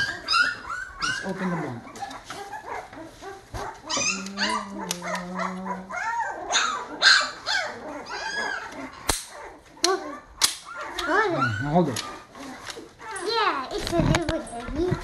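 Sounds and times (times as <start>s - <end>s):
dog whining and yipping: 0.0s - 13.8s.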